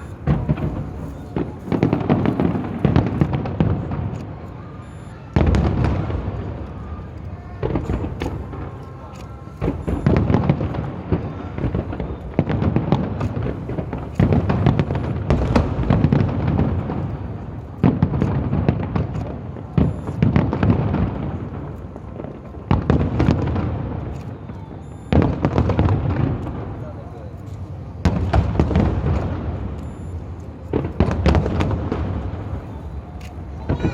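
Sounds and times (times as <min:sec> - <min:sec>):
fireworks booming: 0:00.0 - 0:33.9
fireworks crackling: 0:00.0 - 0:33.9.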